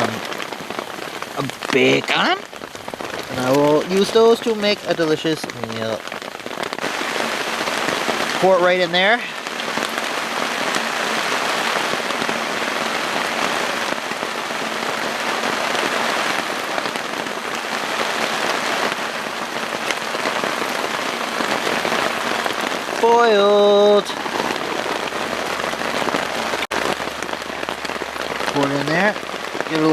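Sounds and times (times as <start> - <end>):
rain pattering on a tarp: 0.0 - 29.9.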